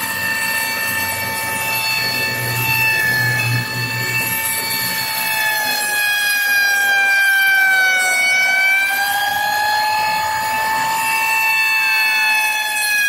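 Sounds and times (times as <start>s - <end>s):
rotary tool motor whine: 0.0s - 13.0s.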